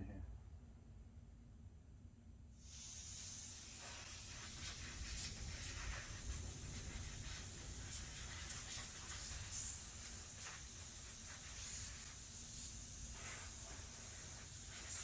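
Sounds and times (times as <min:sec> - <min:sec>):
compressed air hissing: 0:02.6 - 0:15.0.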